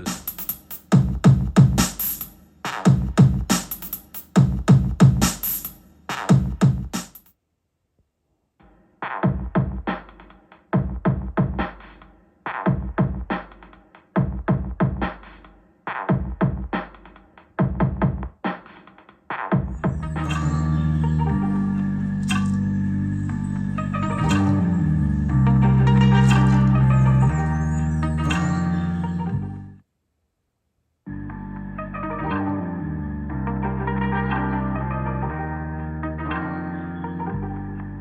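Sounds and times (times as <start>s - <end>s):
electronic music through speakers: 0.0s - 7.2s, 9.0s - 29.8s, 31.1s - 38.0s.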